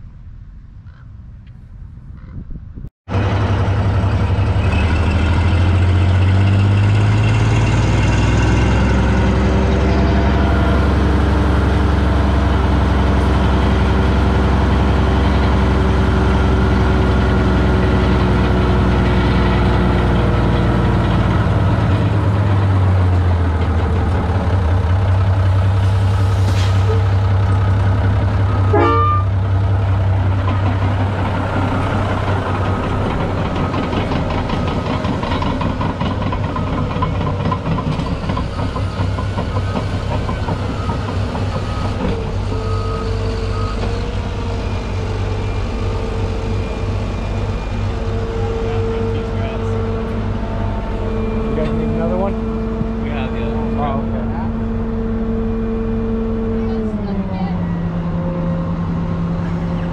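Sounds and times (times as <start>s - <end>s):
bulldozers working: 3.1s - 59.9s
heavy diesel engines running: 3.1s - 59.9s
truck engine changing pitch: 3.1s - 59.9s
rising squeal: 4.1s - 29.4s, 36.4s - 59.9s.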